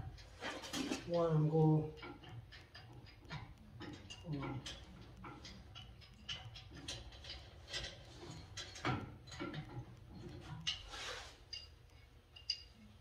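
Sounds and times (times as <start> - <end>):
metal clicks of pipe wrenches: 1.9 - 13.0.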